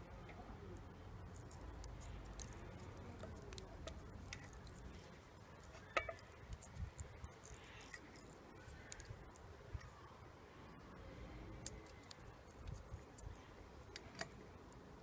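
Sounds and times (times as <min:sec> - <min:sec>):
small clicks and soft squishes: 0:00.2 - 0:10.1, 0:11.3 - 0:15.0.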